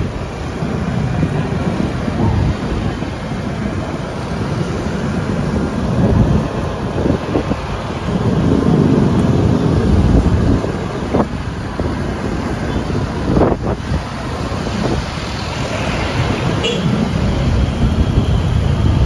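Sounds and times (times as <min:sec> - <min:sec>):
road and traffic noise: 0:00.0 - 0:19.0
wind rushing over microphone: 0:00.0 - 0:19.0.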